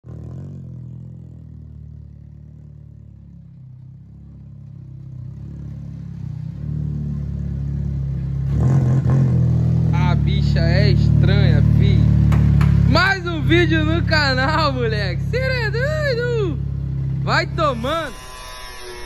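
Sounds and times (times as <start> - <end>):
car engine idling: 0.0 - 8.8, 9.4 - 18.1.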